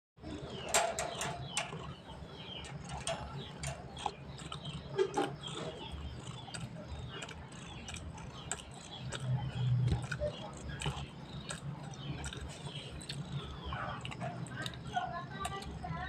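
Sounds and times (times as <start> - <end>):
low steady hum: 0.2 - 16.0.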